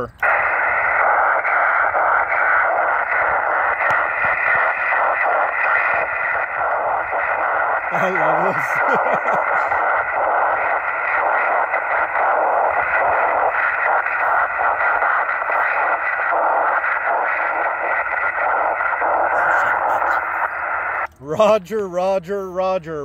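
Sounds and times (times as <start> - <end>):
radio receiver hiss: 0.0 - 23.0.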